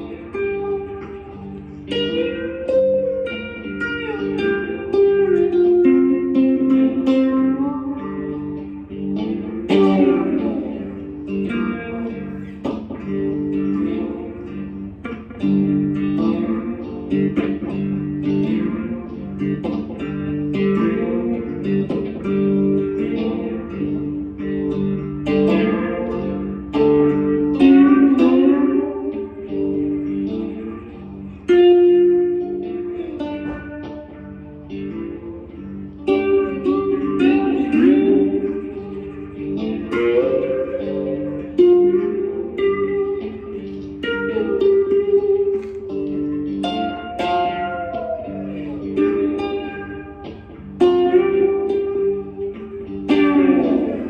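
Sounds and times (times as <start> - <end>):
slide guitar playing: 0.0 - 54.0.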